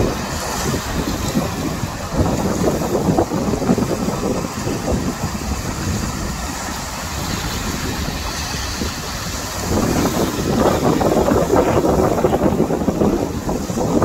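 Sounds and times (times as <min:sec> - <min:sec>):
sea surf on rocks: 0:00.0 - 0:14.0
wind buffeting microphone: 0:00.0 - 0:14.0.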